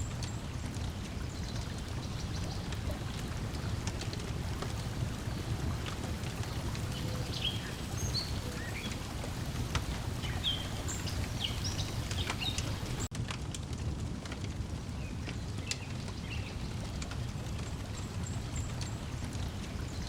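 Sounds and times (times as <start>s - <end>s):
small waves lapping: 0.0s - 13.1s, 15.4s - 20.0s
songbirds chirping: 0.0s - 13.1s, 14.9s - 20.0s
wood fire crackling: 0.0s - 20.0s.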